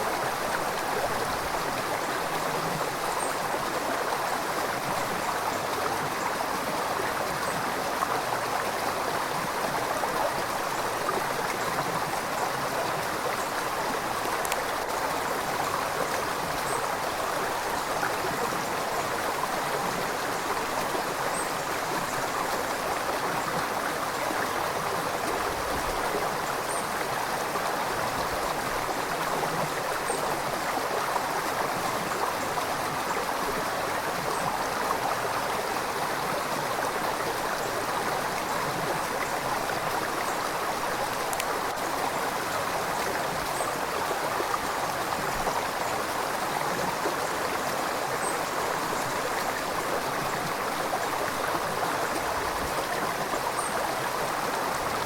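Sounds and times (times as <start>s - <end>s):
river water over rocks: 0.0s - 55.0s.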